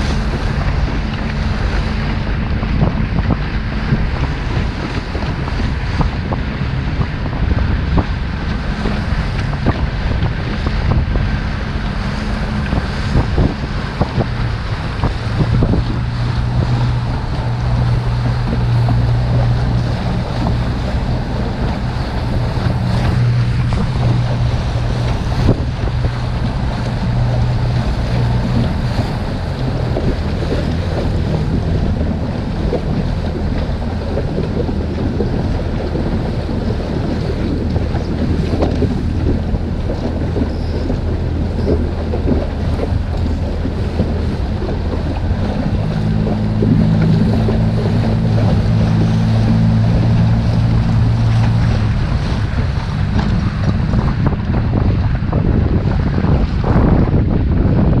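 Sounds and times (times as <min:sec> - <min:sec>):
outboard motor running: 0:00.0 - 0:58.0
water slapping hull: 0:00.0 - 0:58.0
wind buffeting microphone: 0:00.0 - 0:58.0.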